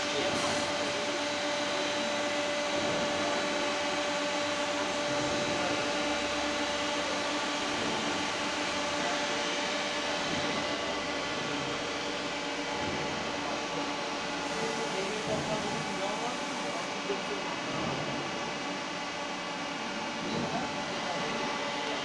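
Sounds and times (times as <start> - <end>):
machine cooling fans whirring hum: 0.0 - 22.0.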